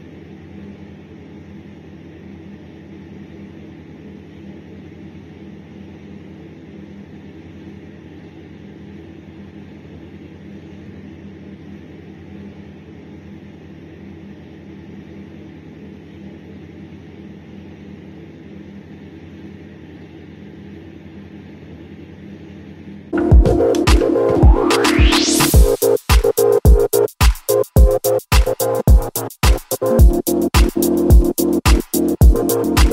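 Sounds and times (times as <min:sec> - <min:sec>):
low hum: 0:02.5 - 0:32.9.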